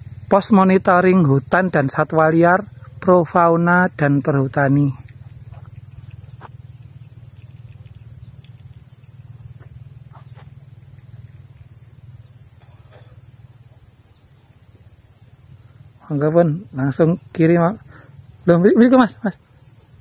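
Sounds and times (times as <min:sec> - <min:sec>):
cicadas buzzing: 0:00.0 - 0:20.0
low steady rumble: 0:00.0 - 0:20.0.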